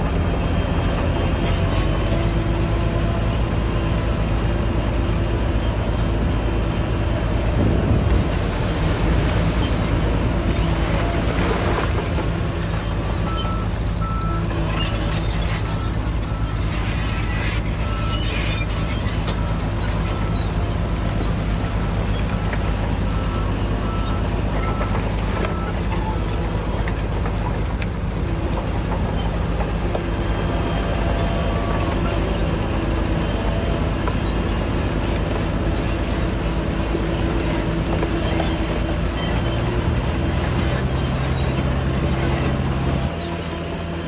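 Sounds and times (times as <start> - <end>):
heavy diesel engine under load: 0.0 - 44.0.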